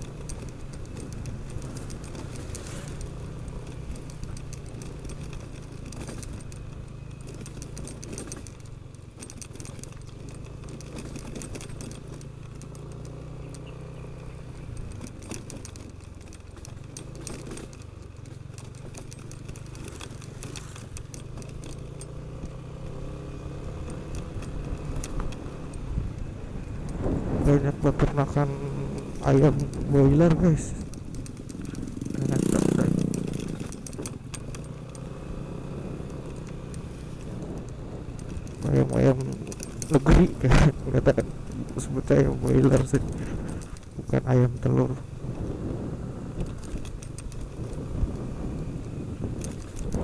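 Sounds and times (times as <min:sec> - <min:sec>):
scooter engine running: 0:00.0 - 0:50.0
small clicks and rattles: 0:00.0 - 0:50.0.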